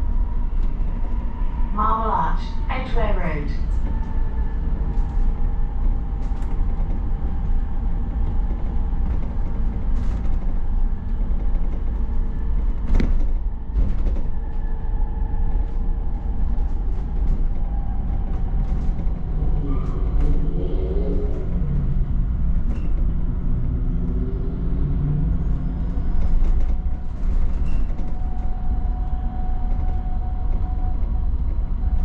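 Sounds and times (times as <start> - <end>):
road and tyre rumble: 3.7 - 32.0.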